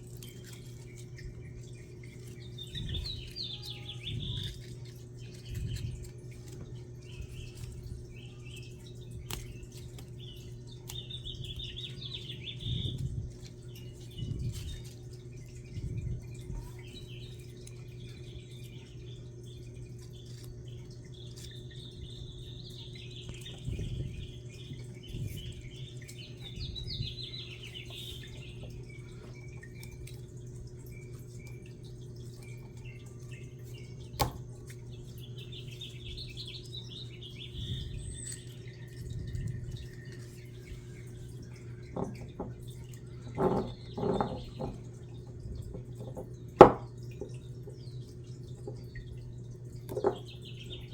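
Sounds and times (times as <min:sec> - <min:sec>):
small birds chirping: 0:00.0 - 0:50.9
steady low hum: 0:00.0 - 0:50.9.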